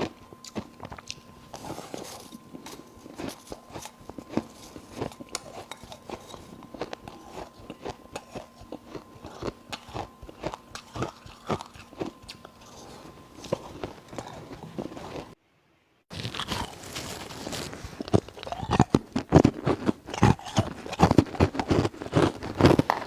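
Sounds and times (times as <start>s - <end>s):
person chewing ice: 0.0s - 15.4s, 16.1s - 23.0s.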